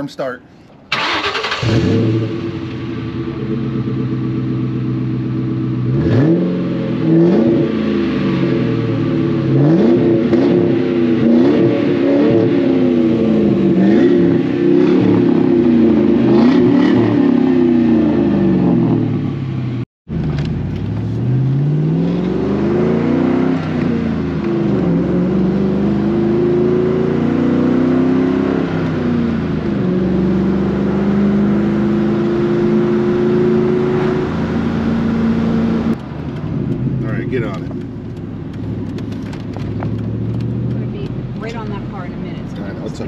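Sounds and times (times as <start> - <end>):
car engine revving: 0.9 - 43.0.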